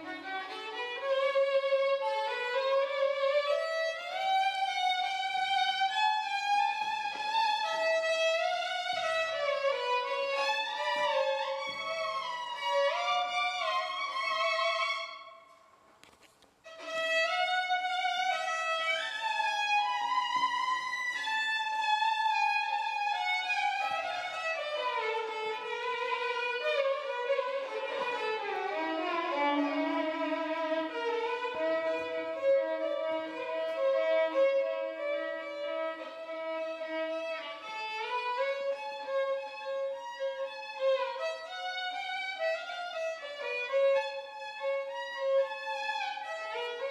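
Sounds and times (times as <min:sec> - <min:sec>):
violin melody: 0:00.0 - 0:46.9.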